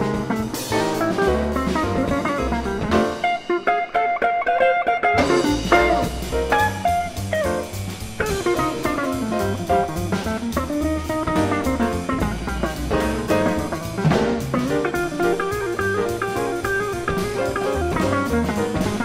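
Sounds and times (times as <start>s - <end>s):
bass notes: 0.0s - 3.6s, 5.0s - 19.0s
drum kit cymbals and drums: 0.0s - 4.4s, 5.0s - 19.0s.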